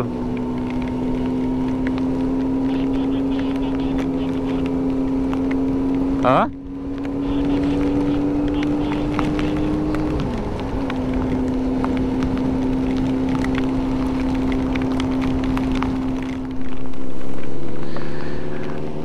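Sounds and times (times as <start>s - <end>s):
motorcycle engine cruising: 0.0s - 19.0s
raindrop ticks: 0.3s - 19.0s
wind rushing over microphone: 3.4s - 19.0s.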